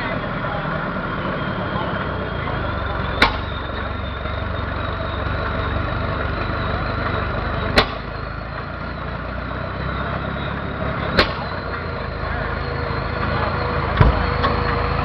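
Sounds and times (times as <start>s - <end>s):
stationary engine bang: 0.0s - 5.8s, 6.9s - 8.3s, 10.0s - 15.0s
steady engine rumble: 0.0s - 15.0s.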